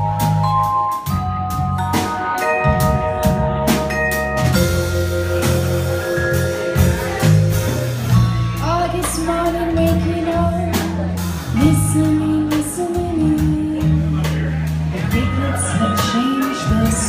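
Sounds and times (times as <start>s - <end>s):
drum kit strokes: 0.0s - 17.0s
live band playing: 0.0s - 17.0s.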